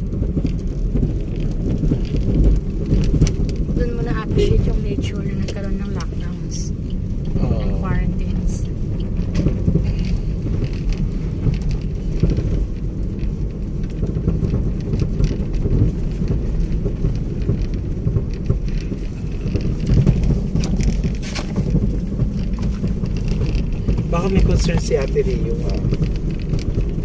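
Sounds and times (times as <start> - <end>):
crackles and knocks: 0.0 - 27.0
vehicle rumbling over rough road: 0.0 - 27.0.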